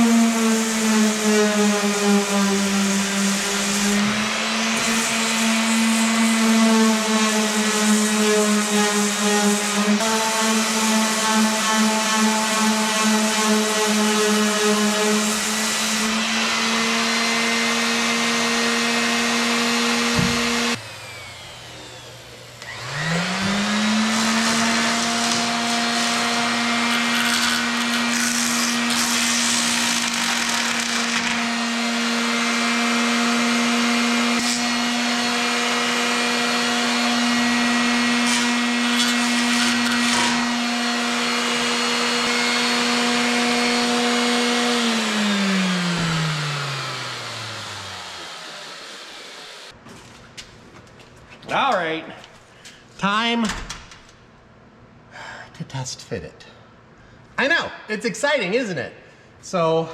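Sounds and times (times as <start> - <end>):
power sander running: 0.0 - 49.8.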